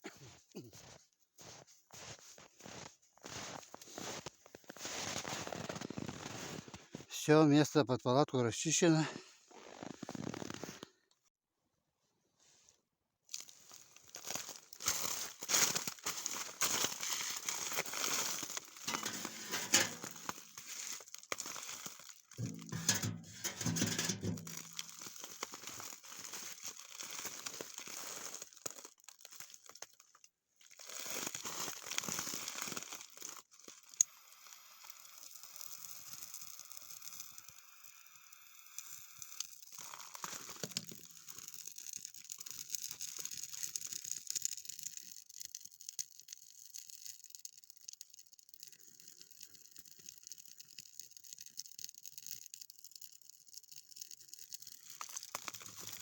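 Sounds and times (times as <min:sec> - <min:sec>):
crinkling and crunching handling: 0:00.6 - 0:07.1, 0:13.2 - 0:34.1, 0:34.9 - 0:56.0.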